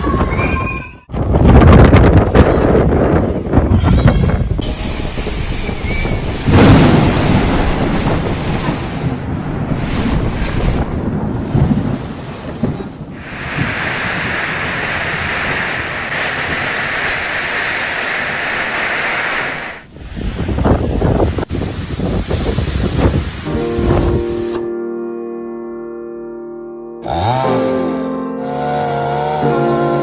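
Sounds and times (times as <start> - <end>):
strong wind buffeting microphone: 0.0 - 24.5.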